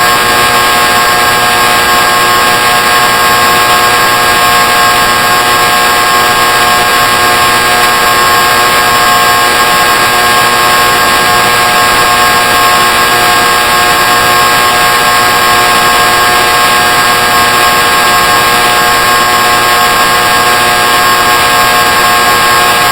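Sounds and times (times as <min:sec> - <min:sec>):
loud steady buzzing tone: 0:00.0 - 0:22.9.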